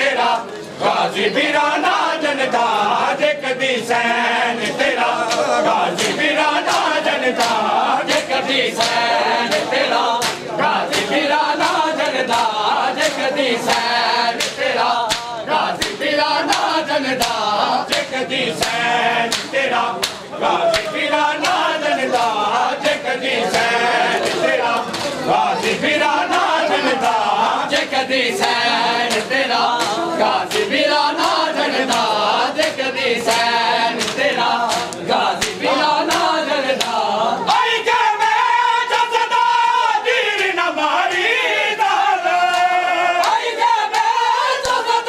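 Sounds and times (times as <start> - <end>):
men chanting in chorus: 0.0 - 45.0.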